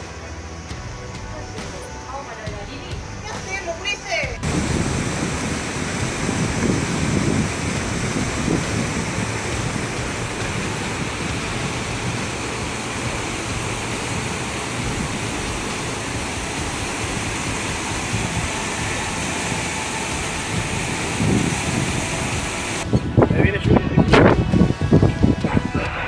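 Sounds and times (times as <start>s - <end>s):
river water rushing: 0.0s - 23.2s
strong storm wind: 0.0s - 26.0s.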